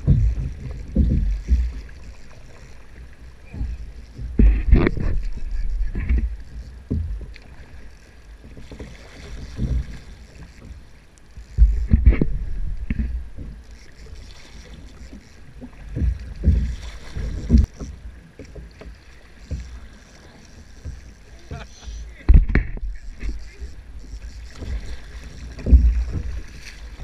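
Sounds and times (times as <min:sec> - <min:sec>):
water slapping kayak hull: 0:00.0 - 0:27.0.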